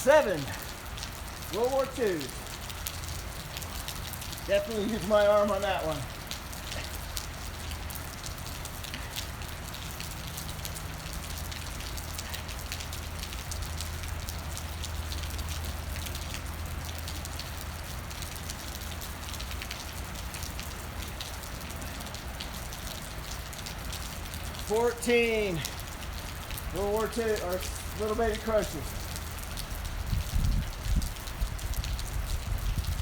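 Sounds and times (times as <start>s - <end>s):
low steady rain rumble: 0.0s - 33.0s
raindrops ticking on a surface: 0.0s - 33.0s.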